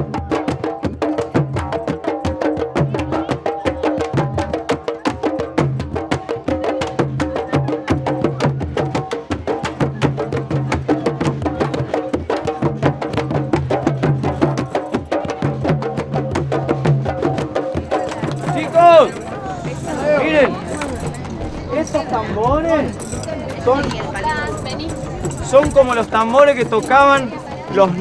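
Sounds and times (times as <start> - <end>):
group of barrel drums playing: 0.0 - 28.0.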